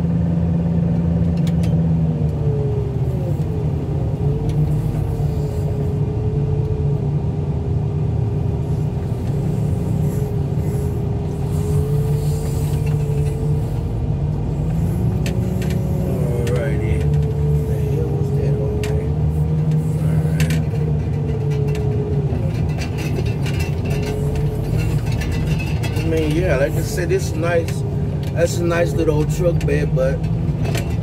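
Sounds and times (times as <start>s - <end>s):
wheel loader engine running: 0.0s - 31.0s.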